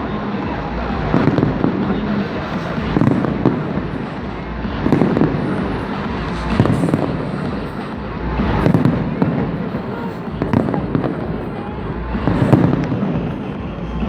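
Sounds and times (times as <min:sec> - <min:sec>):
fireworks rumbling and crackling: 0:00.0 - 0:14.0
loud firework bangs: 0:01.0 - 0:13.7.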